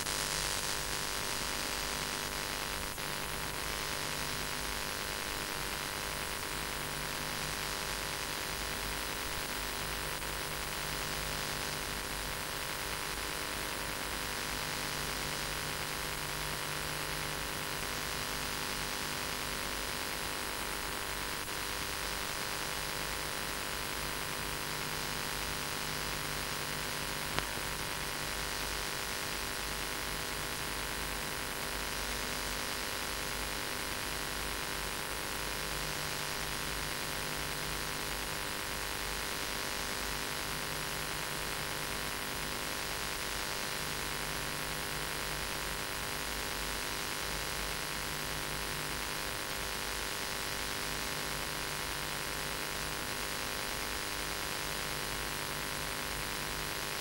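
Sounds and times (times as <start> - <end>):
tape hiss and electrical hum: 0.0 - 57.0.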